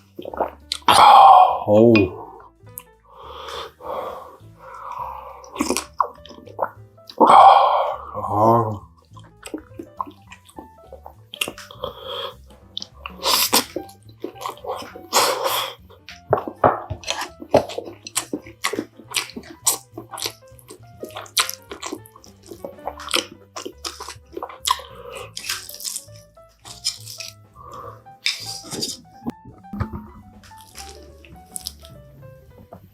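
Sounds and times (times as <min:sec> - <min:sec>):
wet slurping: 0:00.0 - 0:29.3
crunchy bites and chewing: 0:00.0 - 0:29.4, 0:30.4 - 0:32.0
quiet background music: 0:00.0 - 0:32.9.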